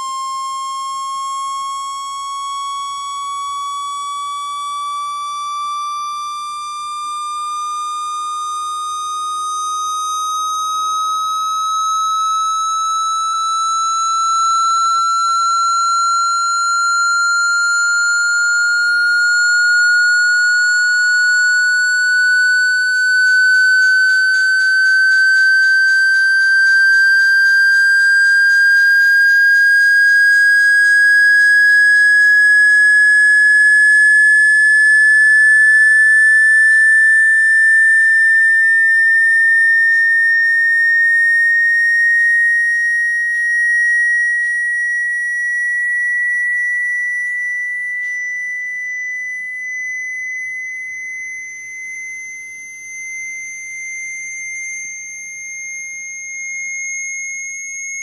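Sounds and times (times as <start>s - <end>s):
high whistling tone rising: 4.8s - 58.0s.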